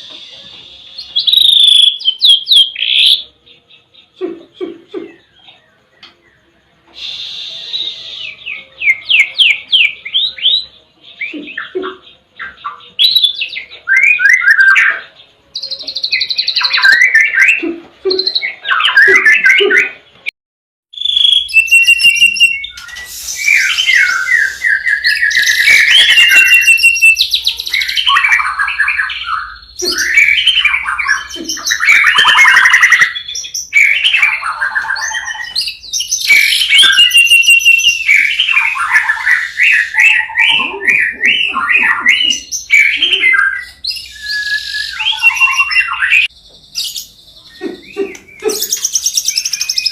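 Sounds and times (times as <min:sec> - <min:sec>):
bird singing whistles and trills: 0:00.0 - 0:20.3, 0:20.9 - 0:49.9.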